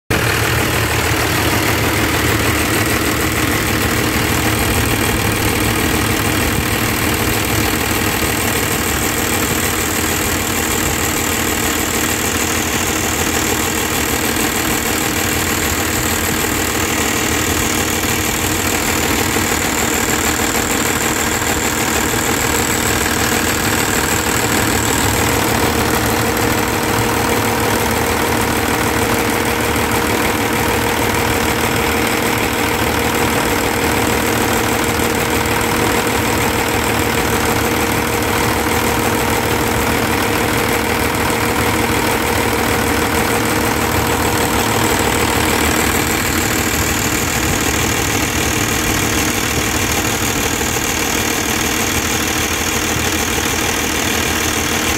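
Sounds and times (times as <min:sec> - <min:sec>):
diesel engine idling: 0:00.1 - 0:54.9.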